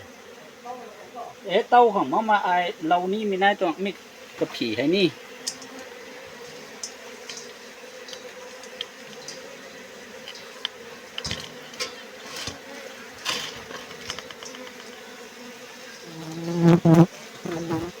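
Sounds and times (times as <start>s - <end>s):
honeybees buzzing: 0.0s - 18.0s
bee flying close by: 2.9s - 18.0s.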